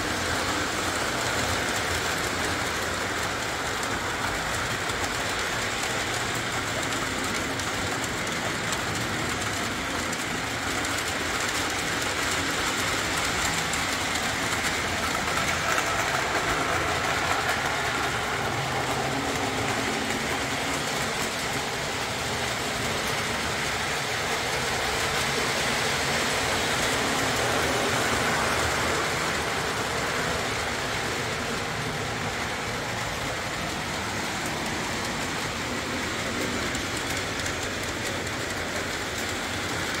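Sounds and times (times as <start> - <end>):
model train running on track: 0.0 - 40.0.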